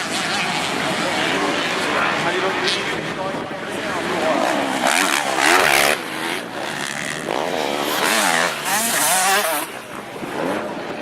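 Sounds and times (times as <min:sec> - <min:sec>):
motocross bikes revving: 0:00.0 - 0:11.0.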